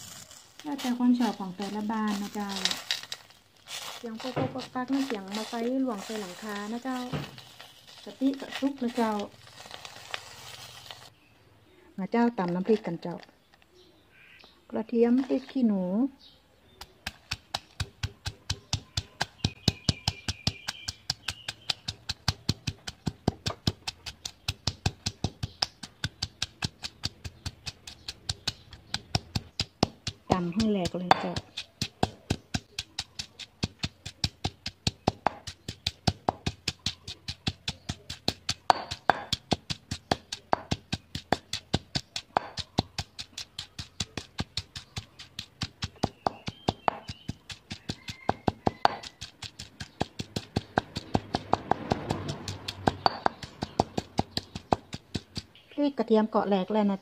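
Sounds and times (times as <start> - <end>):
pestle pounding in stone mortar: 0.8 - 3.1, 4.0 - 9.3, 16.8 - 55.7.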